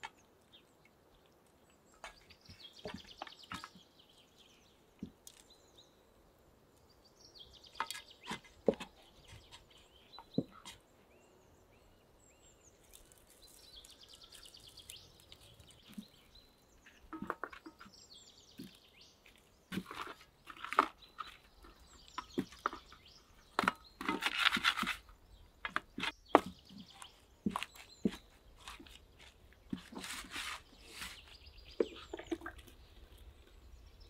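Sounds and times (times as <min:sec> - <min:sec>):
small birds chirping faintly: 0:00.0 - 0:34.0.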